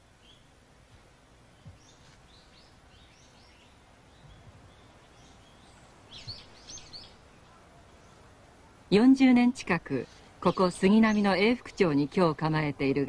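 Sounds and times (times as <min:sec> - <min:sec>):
low outdoor hum: 0:00.0 - 0:13.0
small birds chirping: 0:00.0 - 0:13.0.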